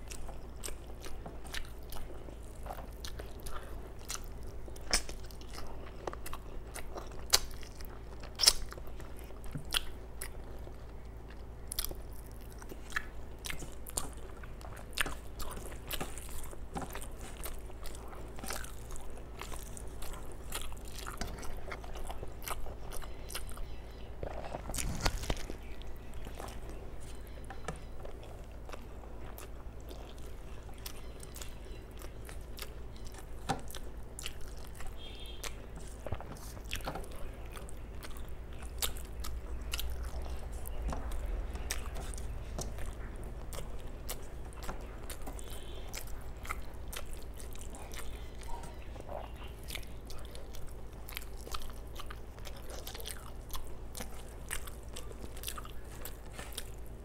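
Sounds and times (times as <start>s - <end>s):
person chewing: 0.0s - 57.0s
steady low hum: 0.0s - 57.0s.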